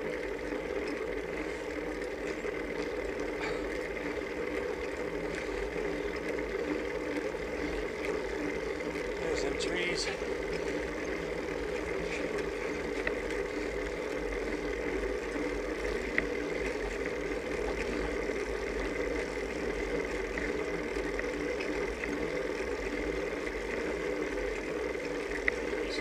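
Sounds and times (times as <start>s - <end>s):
bicycle rolling on asphalt: 0.0s - 26.0s.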